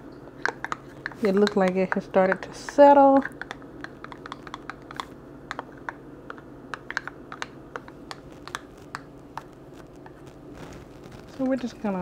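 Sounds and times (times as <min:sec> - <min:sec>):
spoon stirring in plastic container: 0:00.4 - 0:10.4.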